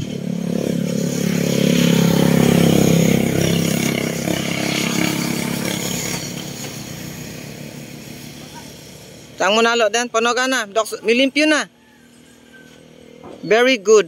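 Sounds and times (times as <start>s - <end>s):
passing vehicle engine: 0.0s - 14.0s.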